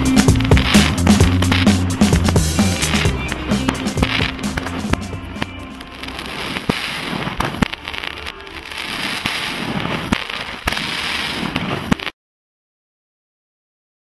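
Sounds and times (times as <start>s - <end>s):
fireworks bangs: 0.0s - 12.2s
fireworks crackling: 0.0s - 12.2s.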